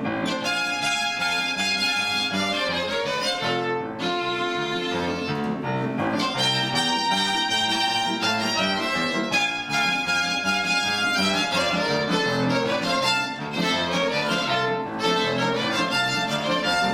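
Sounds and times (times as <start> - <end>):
piano accompaniment: 0.0 - 16.9
violin duet: 0.0 - 16.9.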